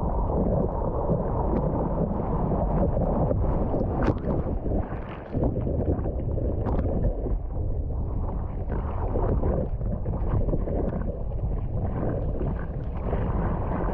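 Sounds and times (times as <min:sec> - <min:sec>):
water rushing and sloshing: 0:00.0 - 0:13.9
wind buffeting microphone: 0:00.0 - 0:13.9.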